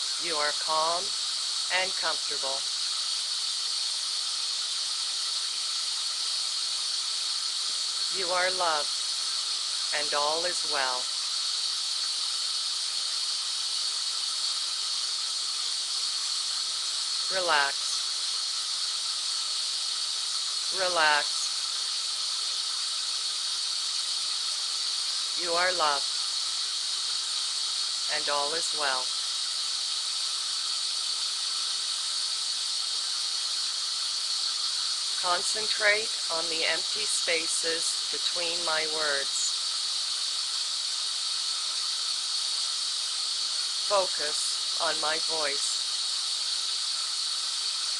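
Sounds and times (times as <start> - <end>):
steady white noise hiss: 0.0 - 47.9.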